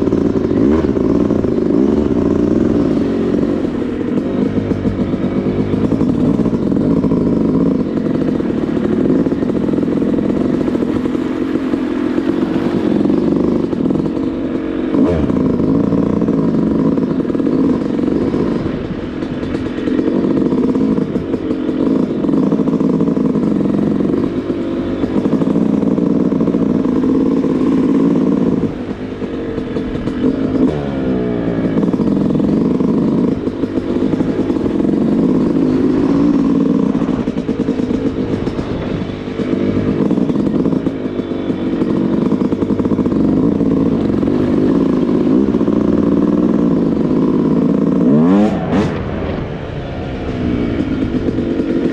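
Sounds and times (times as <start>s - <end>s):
dirtbike engine revving: 0.0s - 51.9s.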